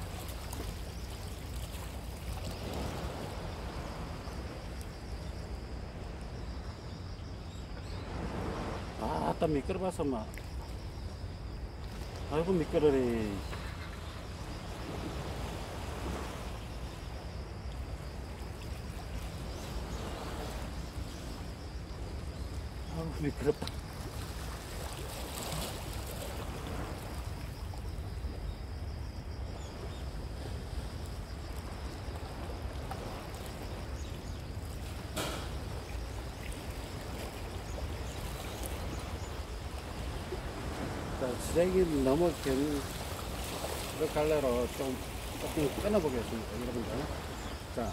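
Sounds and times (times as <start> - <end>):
waves on rocky shore: 0.0 - 47.9
wind: 0.0 - 47.9.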